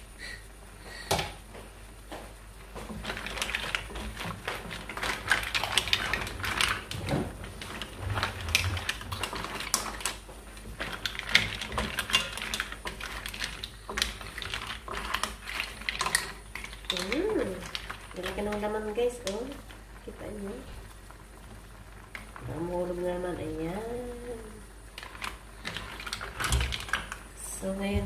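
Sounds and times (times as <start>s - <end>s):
mussel shells clattering in a pot: 2.8s - 20.5s, 21.2s - 28.0s.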